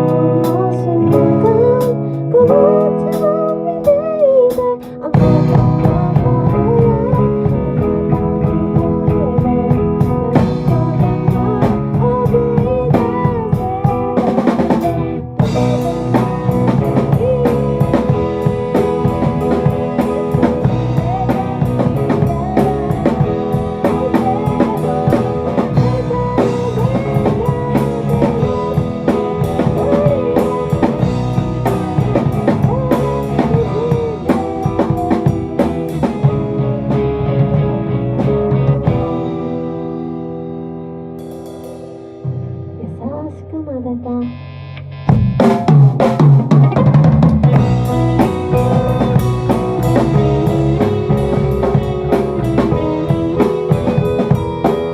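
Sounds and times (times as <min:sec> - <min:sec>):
drum kit beat: 0:00.0 - 0:43.2, 0:44.9 - 0:54.9
rock band playing: 0:00.0 - 0:43.2, 0:44.1 - 0:54.9.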